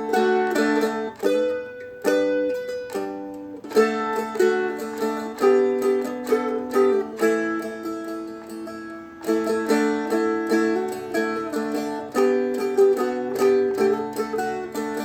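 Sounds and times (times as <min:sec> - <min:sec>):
acoustic strumstick strummed slowly: 0:00.0 - 0:15.0.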